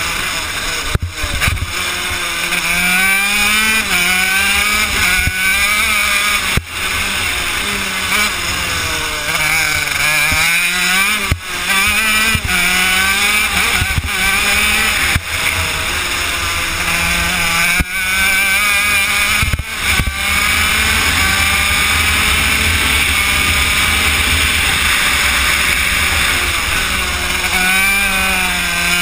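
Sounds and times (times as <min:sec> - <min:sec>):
two-stroke kart engine revving: 0:00.0 - 0:29.0.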